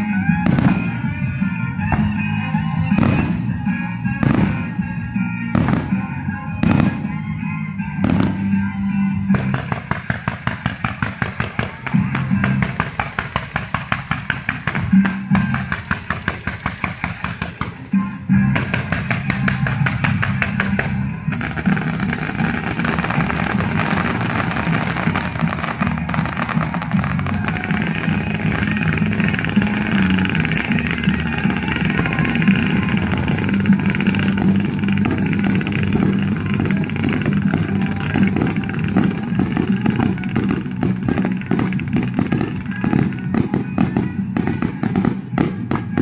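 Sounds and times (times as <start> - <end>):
fireworks roaring whoosh: 0.0 - 46.0
fireworks crackling pops: 4.2 - 4.9, 5.6 - 7.2, 8.0 - 8.6, 9.3 - 46.0.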